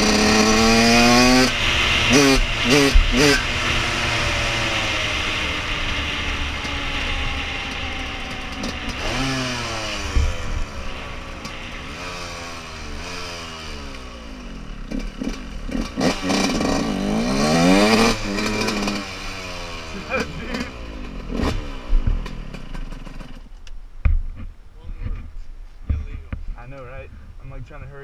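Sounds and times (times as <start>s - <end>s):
motorcycle engine revving: 0.0s - 23.5s.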